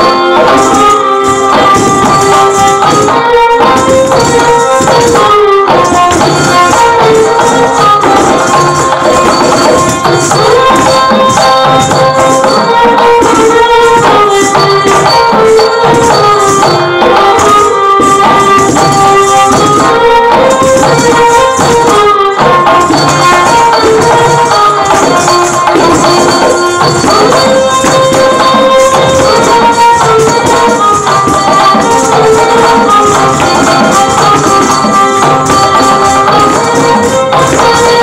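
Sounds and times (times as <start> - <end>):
folk dance music: 0.0 - 38.0
folk percussion rhythm: 0.0 - 38.0
melody in held notes: 0.0 - 38.0.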